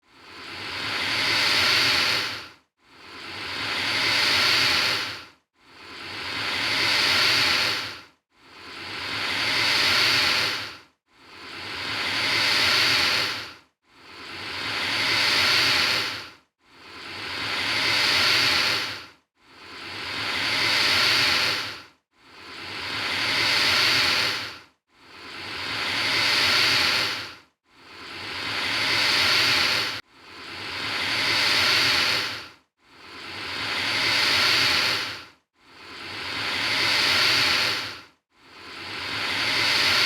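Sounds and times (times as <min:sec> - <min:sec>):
alligator hissing: 0:00.4 - 0:02.4, 0:03.1 - 0:08.0, 0:08.6 - 0:16.2, 0:17.0 - 0:19.0, 0:19.7 - 0:21.8, 0:22.4 - 0:24.6, 0:25.2 - 0:27.3, 0:27.9 - 0:38.0, 0:38.6 - 0:40.0.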